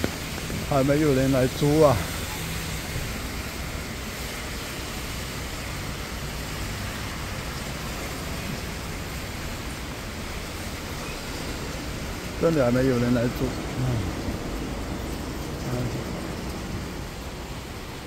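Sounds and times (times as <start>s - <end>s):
light rain falling: 0.0s - 18.0s
traffic on wet road: 0.0s - 18.0s.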